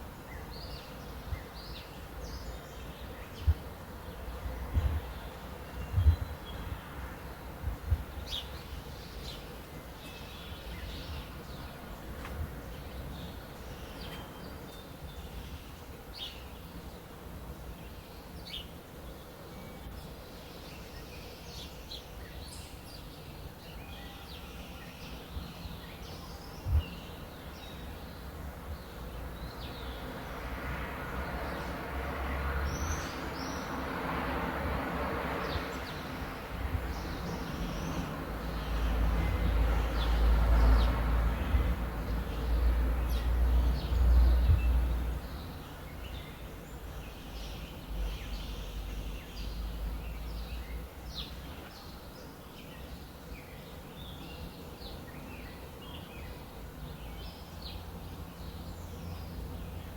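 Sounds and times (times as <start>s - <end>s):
broad rush of noise: 0.0s - 59.9s.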